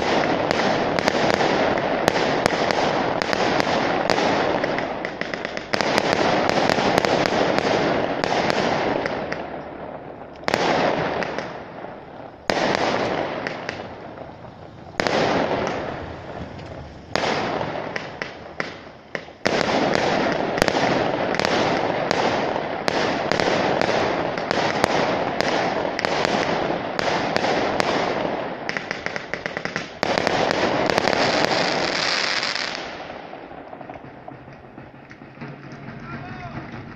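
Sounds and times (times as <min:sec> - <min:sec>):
crackling firework pops: 0:00.0 - 0:36.9
firework bangs: 0:00.0 - 0:36.9.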